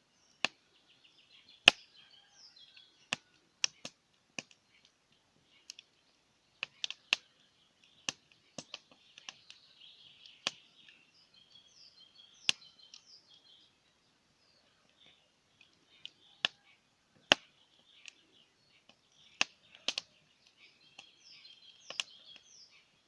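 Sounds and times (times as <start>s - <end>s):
campfire crackling and popping: 0.0s - 0.9s, 1.5s - 23.0s
faint bird chirps: 0.0s - 23.0s.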